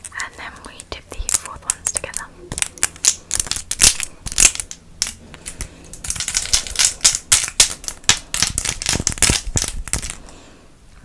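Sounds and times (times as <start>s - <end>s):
plastic pen caps clicking together: 0.0s - 10.2s.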